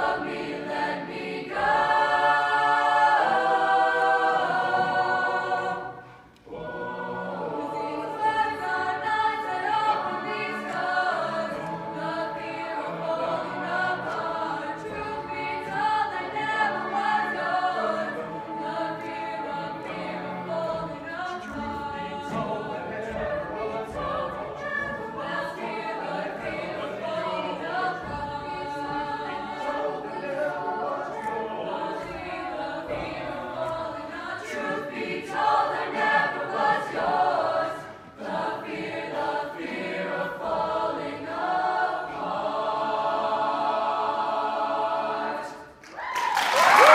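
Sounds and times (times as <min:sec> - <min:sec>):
mixed choir singing: 0:00.0 - 0:46.9.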